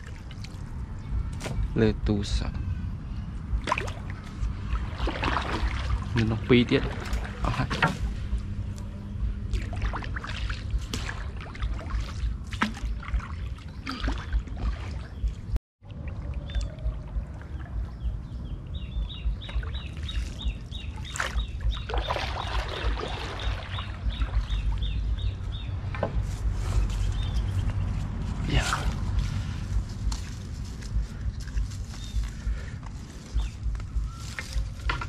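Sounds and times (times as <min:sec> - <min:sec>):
water splashing and sloshing: 0:00.0 - 0:01.9, 0:03.1 - 0:35.0
low rumble: 0:00.0 - 0:35.0.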